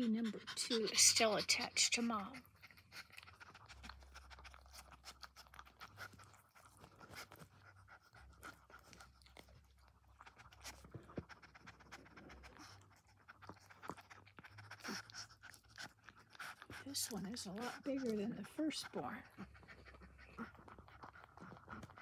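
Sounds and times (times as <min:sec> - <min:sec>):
dog licking and chewing: 0:00.0 - 0:22.0.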